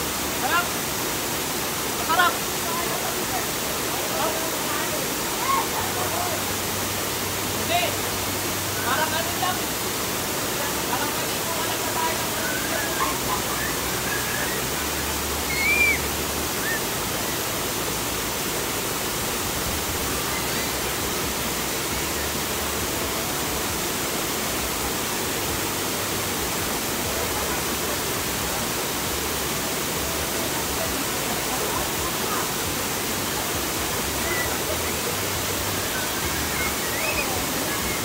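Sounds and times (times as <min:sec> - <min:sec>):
waterfall rushing into pool: 0:00.0 - 0:38.0.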